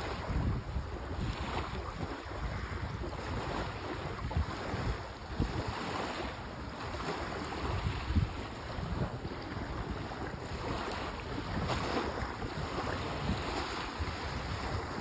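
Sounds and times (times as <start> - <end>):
small waves lapping at shore: 0.0 - 15.0
wind buffeting microphone: 0.0 - 15.0.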